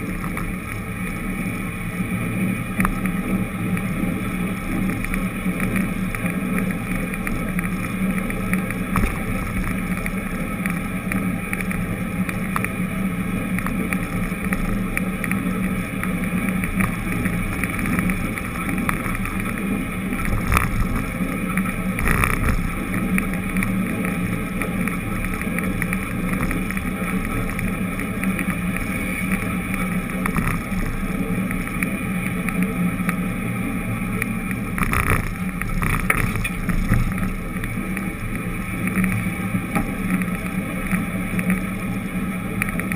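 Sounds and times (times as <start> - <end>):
road and wind noise: 0.0 - 42.9
vehicle engine hum: 0.0 - 42.9.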